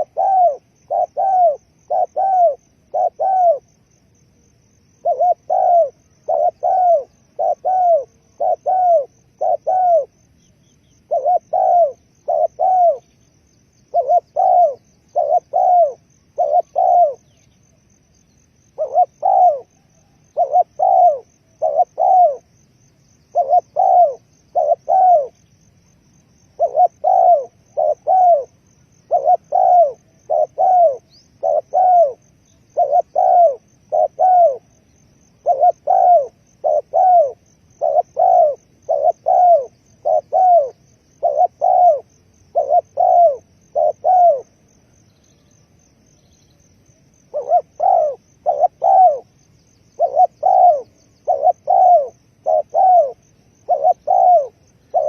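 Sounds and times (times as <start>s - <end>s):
dove cooing: 0.0s - 4.2s, 4.9s - 22.6s, 23.2s - 45.6s, 47.1s - 55.0s.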